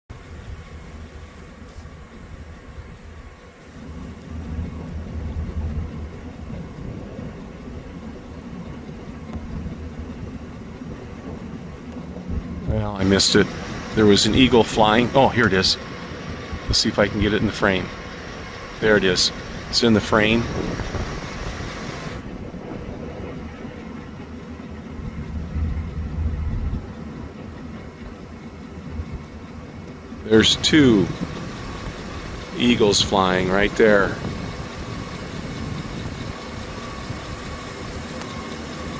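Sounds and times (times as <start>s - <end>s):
car engine rumbling: 0.0s - 38.9s.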